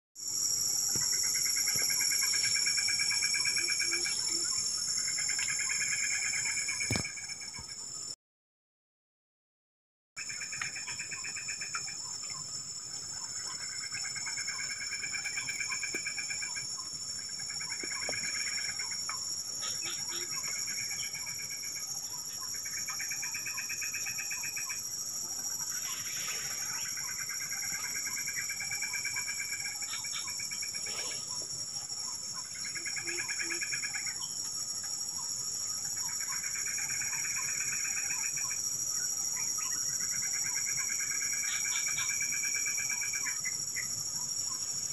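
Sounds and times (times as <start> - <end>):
high-pitched insect drone: 0.2 - 7.9, 10.2 - 44.9
trilling insect call: 0.2 - 8.2, 10.2 - 44.9.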